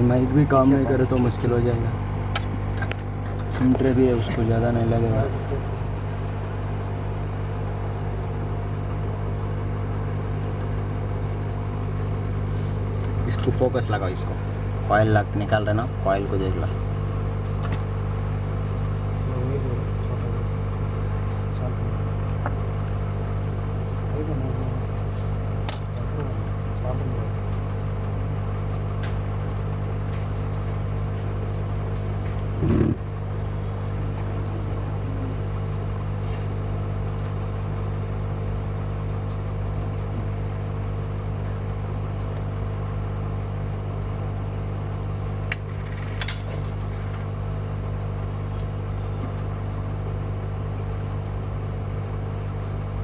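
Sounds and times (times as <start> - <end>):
hot air blower hum and hiss: 0.0 - 53.0.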